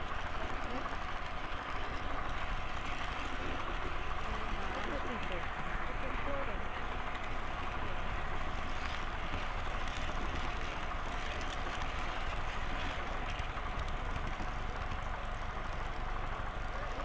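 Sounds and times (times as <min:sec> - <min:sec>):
model train rumbling on rails: 0:00.0 - 0:17.0.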